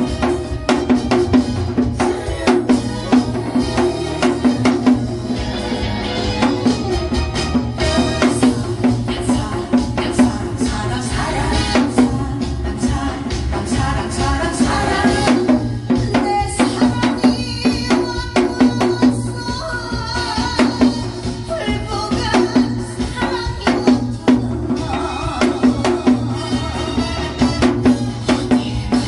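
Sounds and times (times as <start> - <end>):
backing track with steady beat: 0.0 - 29.0.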